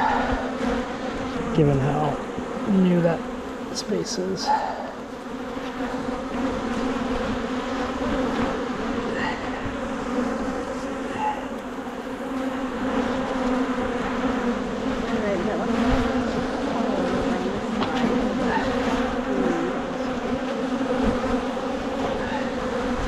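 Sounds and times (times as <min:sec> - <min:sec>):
bees humming: 0:00.0 - 0:23.0
single bees flying close: 0:00.0 - 0:23.0.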